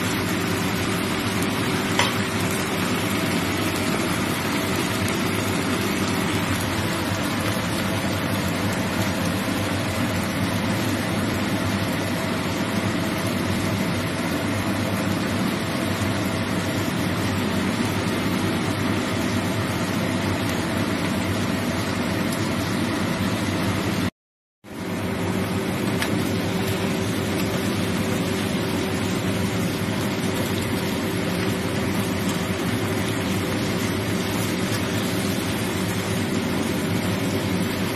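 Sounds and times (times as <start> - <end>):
food sizzling in sauce in a pan: 0.0 - 24.1, 24.7 - 37.9.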